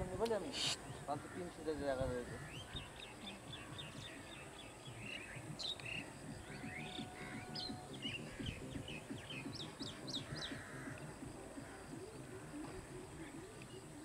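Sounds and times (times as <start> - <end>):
birds chirping: 0.0 - 14.0
low background noise: 0.0 - 14.0.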